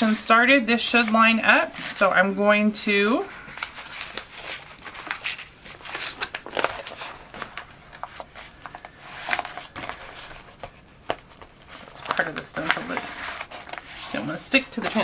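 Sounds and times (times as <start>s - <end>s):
vinyl sheet rustling and crinkling: 0.0s - 15.0s.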